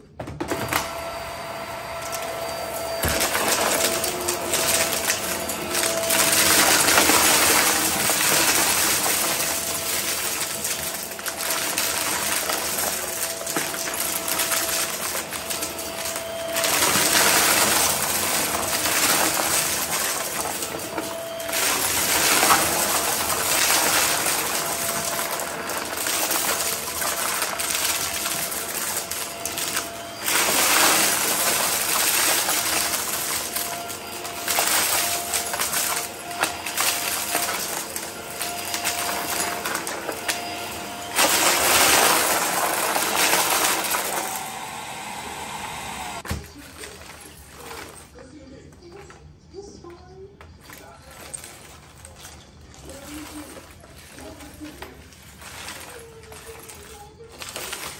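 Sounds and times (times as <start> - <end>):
vacuum cleaner motor whine: 0.0 - 49.2, 50.6 - 57.9
debris crackling through nozzle: 2.5 - 49.8, 50.5 - 57.9.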